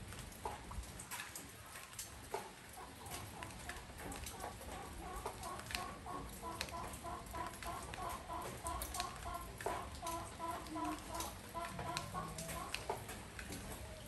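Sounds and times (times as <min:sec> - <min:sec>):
rain falling on porch: 0:00.0 - 0:14.0
raindrops clicking: 0:00.0 - 0:14.0.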